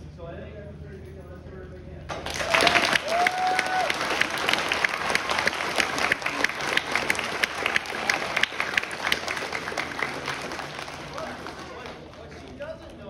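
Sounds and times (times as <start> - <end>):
audience applauding: 2.1 - 13.0.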